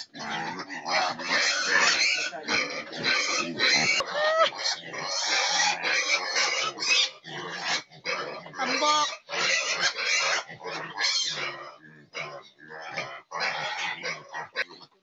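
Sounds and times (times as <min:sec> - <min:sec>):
pig squealing: 0:00.0 - 0:14.9
pigs grunting: 0:00.0 - 0:15.0.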